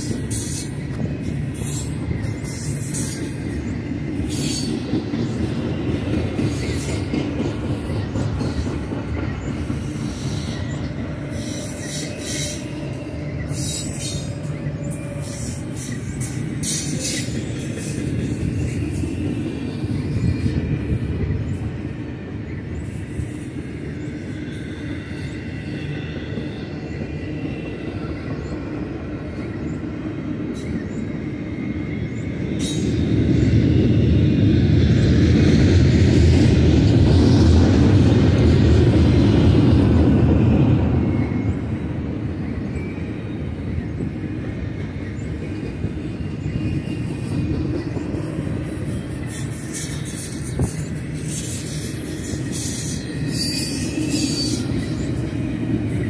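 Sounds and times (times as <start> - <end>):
steel wheels rumbling on rail: 0.0 - 56.0
train wheels squealing: 0.0 - 56.0.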